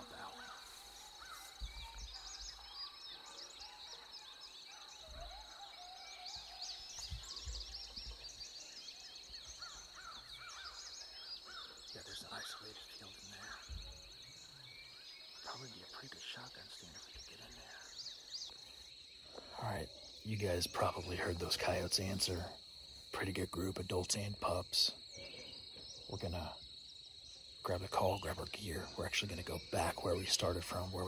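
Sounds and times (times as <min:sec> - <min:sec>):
coyotes yipping and howling: 0:00.0 - 0:31.0.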